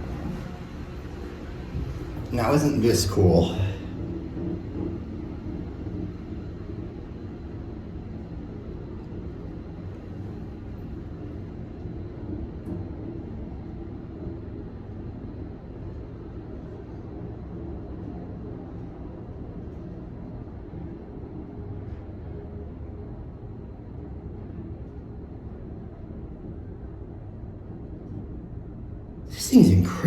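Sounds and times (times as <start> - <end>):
elevator low rumble: 0.0 - 30.0.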